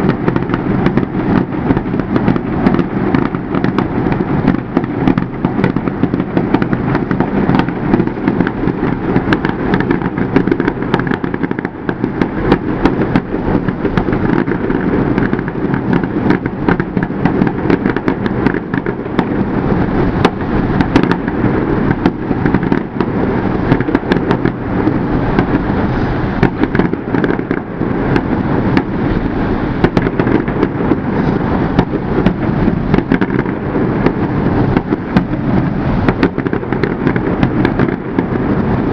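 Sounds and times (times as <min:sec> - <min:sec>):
fireworks bursts and crackles: 0:00.0 - 0:38.9.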